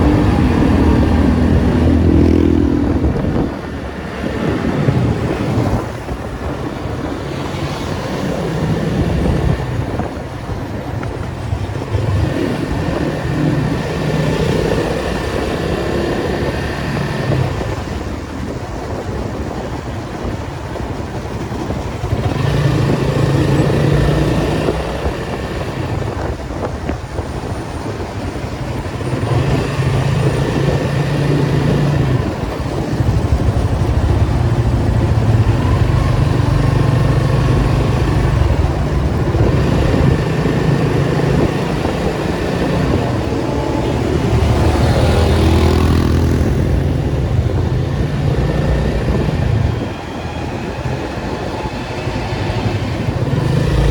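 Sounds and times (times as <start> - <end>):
car engine in traffic: 0.0 - 53.9.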